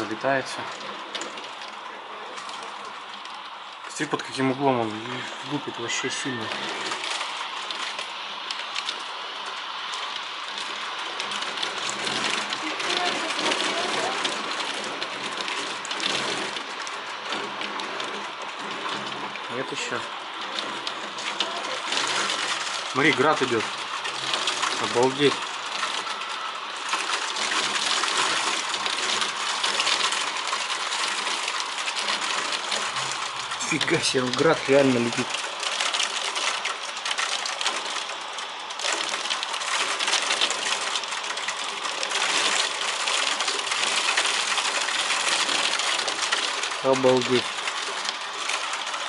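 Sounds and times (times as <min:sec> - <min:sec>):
hailstones clattering: 0:00.0 - 0:49.0
heavy rain hissing: 0:00.0 - 0:49.0
raindrops ticking on hard surfaces: 0:00.0 - 0:49.0.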